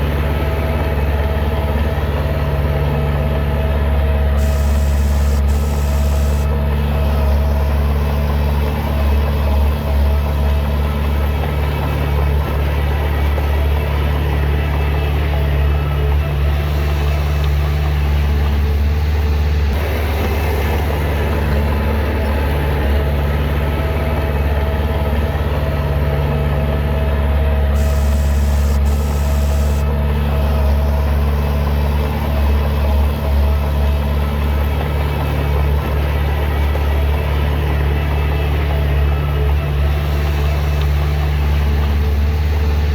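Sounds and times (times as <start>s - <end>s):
diesel machinery engine drone: 0.0s - 42.9s.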